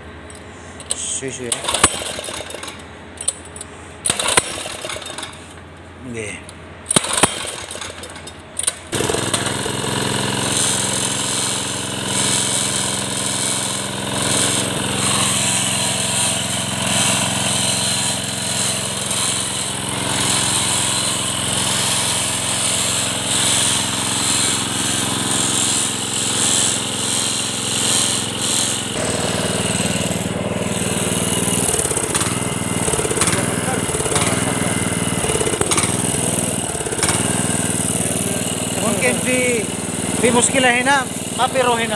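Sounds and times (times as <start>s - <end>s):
rope pull start: 0.3s - 3.4s, 4.0s - 5.6s, 6.9s - 41.9s
small petrol engine idling: 0.4s - 3.4s, 4.0s - 5.8s, 6.9s - 41.9s.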